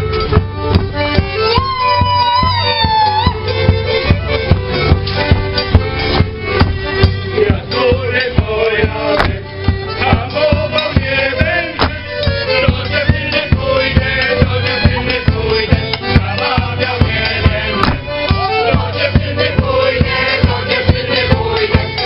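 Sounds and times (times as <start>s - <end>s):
accordion: 0.0s - 22.0s
bass drum beat: 0.0s - 22.0s
folk band playing: 0.0s - 22.0s
violin: 0.0s - 22.0s.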